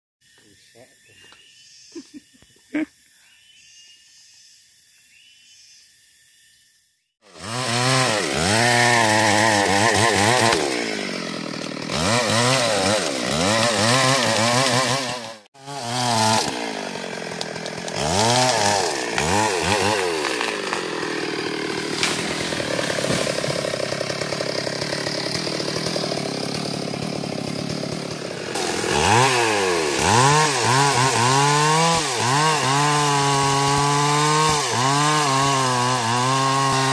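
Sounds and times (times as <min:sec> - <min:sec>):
chainsaw revving and sawing: 0:07.2 - 0:36.9.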